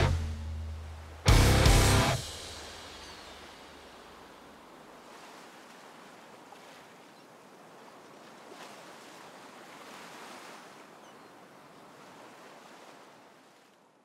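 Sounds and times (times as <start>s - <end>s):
surf washing on stony shore: 0.0s - 13.8s.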